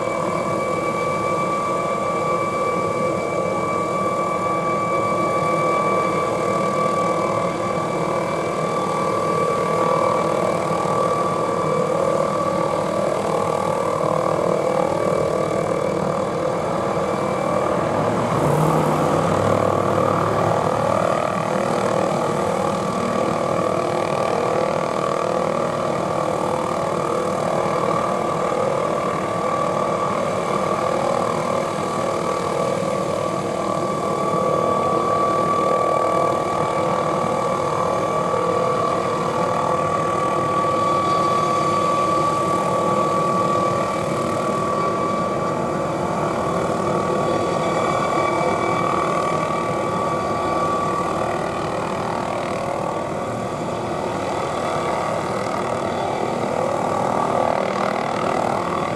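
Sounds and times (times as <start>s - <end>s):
helicopter rotor rushing: 0.0s - 58.9s
high turbine whine: 0.0s - 58.9s.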